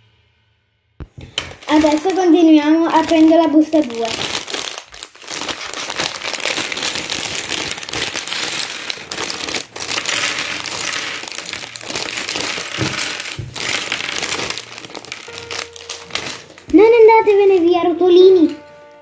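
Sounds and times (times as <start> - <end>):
plastic bag crinkling: 1.2 - 17.7.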